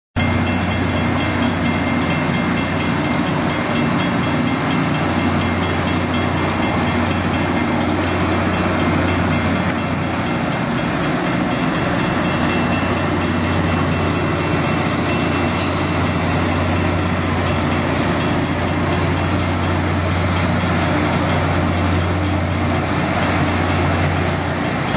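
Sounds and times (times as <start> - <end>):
train rumbling on rails: 0.2 - 24.9.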